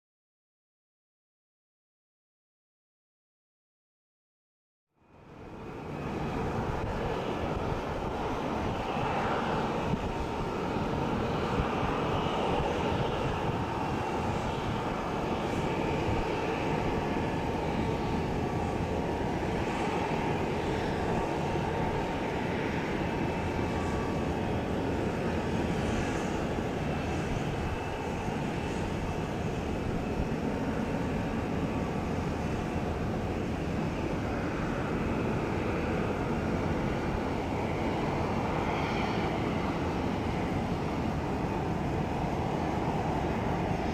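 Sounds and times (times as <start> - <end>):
jet engines running: 5.1 - 43.9.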